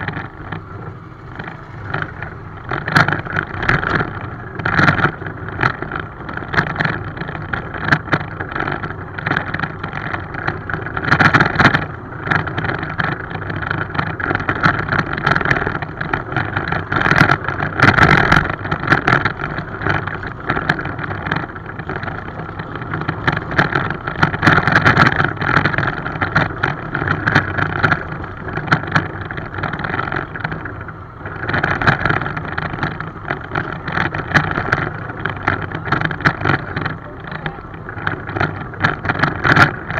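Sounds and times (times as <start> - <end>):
miniature train running: 0.0 - 39.9
steel wheels clattering on rails: 0.0 - 39.9.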